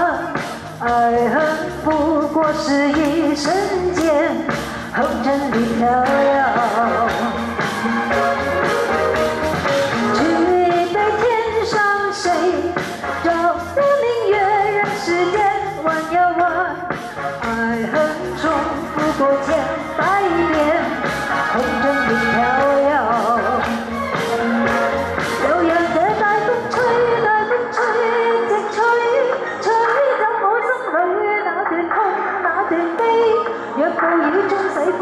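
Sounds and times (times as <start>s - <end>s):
woman singing into microphone: 0.0s - 7.8s, 10.0s - 35.0s
instrumental music with steady beat: 0.0s - 29.8s.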